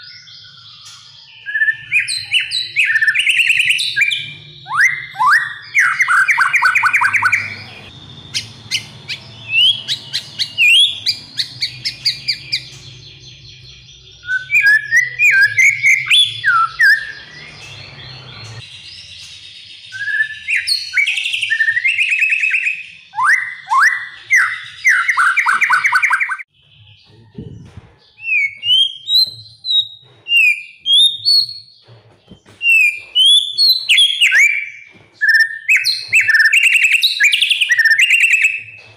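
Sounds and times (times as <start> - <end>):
songbird singing varied song: 0.0 - 38.9.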